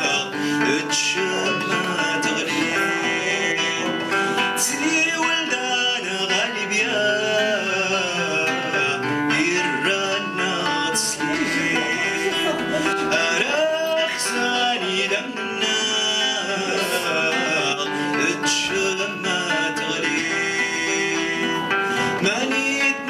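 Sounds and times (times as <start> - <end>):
acoustic guitar chords: 0.0 - 23.0
man singing: 0.0 - 23.0.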